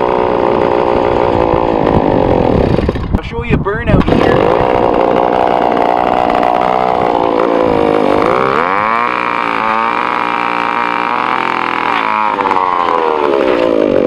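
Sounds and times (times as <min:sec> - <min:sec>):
scooter engine revving: 0:00.0 - 0:03.1, 0:04.0 - 0:14.0.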